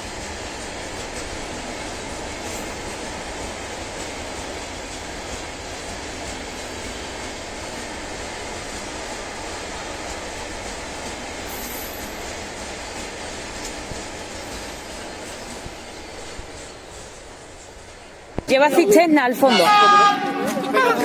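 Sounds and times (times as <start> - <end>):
train wheels rolling on rails: 0.0 - 18.7.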